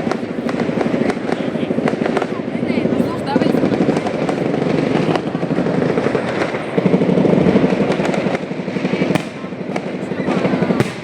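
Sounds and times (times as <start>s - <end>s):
fireworks popping and crackling: 0.0s - 11.0s
sharp firework cracks: 0.0s - 11.0s.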